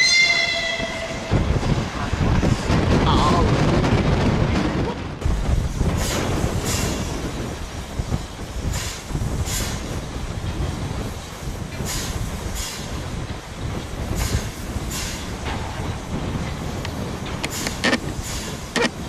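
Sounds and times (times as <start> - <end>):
steam locomotive chuffing: 3.5 - 19.0.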